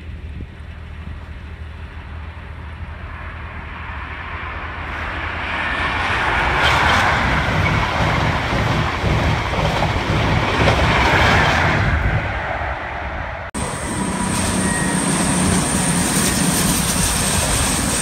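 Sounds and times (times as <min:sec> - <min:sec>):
diesel train engines running: 0:00.0 - 0:18.0
train wheels rumbling on rails: 0:00.0 - 0:18.0.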